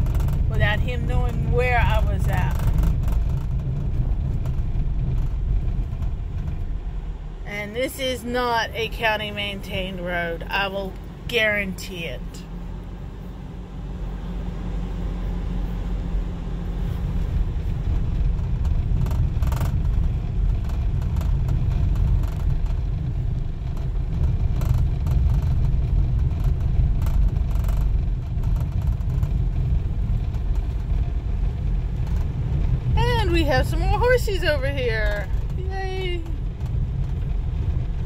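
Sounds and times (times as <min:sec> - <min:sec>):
car driving on dirt road: 0:00.0 - 0:38.0.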